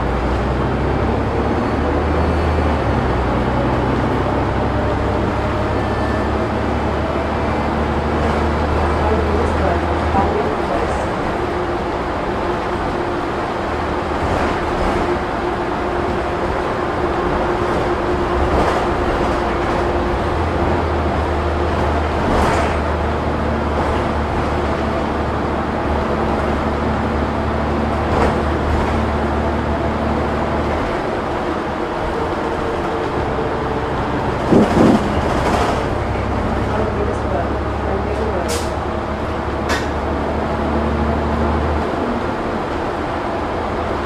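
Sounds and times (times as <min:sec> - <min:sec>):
bus engine and road noise: 0:00.0 - 0:44.0.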